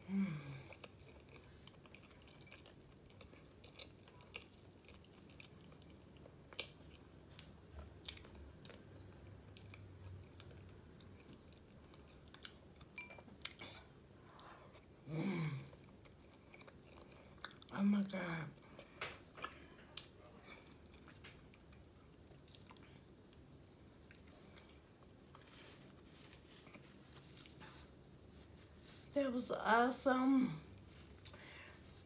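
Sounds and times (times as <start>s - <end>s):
chewing and wet mouth sounds: 0.5s - 29.1s.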